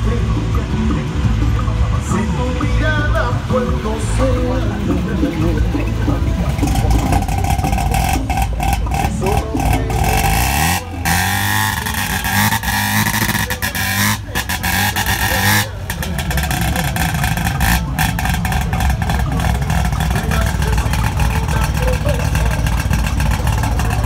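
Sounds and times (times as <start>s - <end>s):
rotary engine revving: 0.0s - 24.0s.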